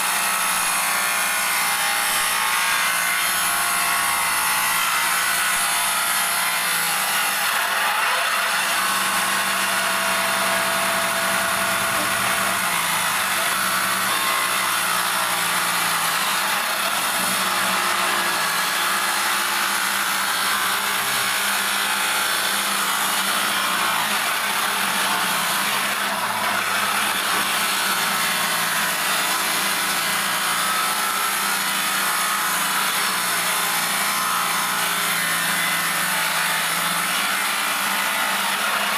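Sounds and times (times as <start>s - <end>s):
saw motor hum: 0.0s - 38.9s
table saw ripping wood: 0.0s - 38.9s.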